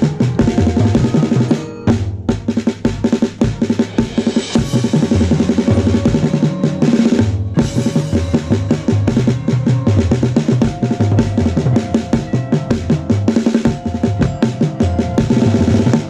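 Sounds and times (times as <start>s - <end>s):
fast drum set pattern: 0.0s - 16.0s.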